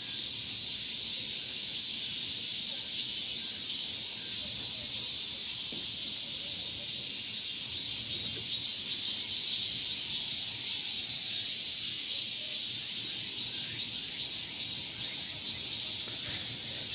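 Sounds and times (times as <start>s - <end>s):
insects chorus: 0.0s - 16.9s.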